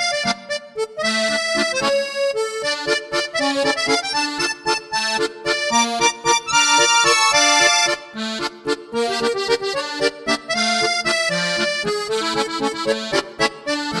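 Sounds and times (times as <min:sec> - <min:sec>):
accordion playing a waltz: 0:00.0 - 0:14.0.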